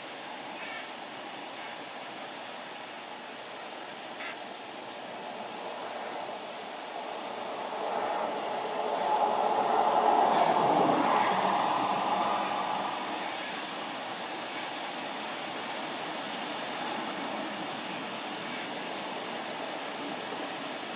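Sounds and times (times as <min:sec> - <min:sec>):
wind gusting: 0:03.1 - 0:20.9.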